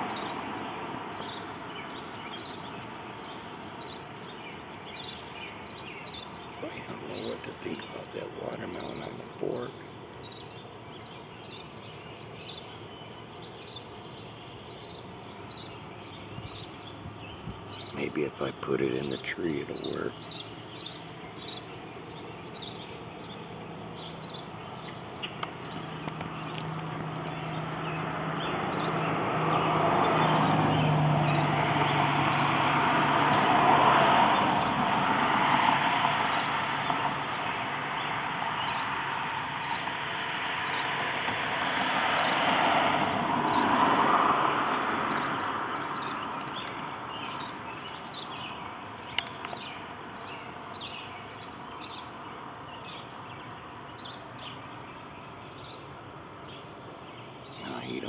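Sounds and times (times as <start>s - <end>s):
road vehicles passing: 0.0s - 58.0s.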